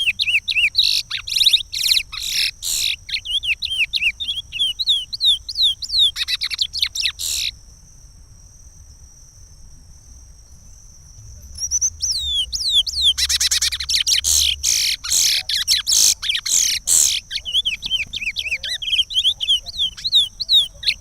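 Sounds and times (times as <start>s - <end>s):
bird singing: 0.0s - 7.6s, 10.0s - 21.0s.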